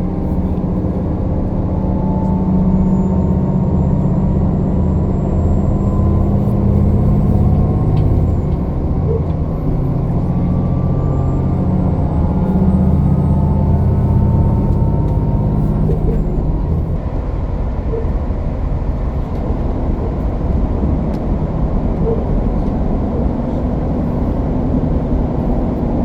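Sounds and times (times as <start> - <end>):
train engine drone inside car: 0.0 - 26.0.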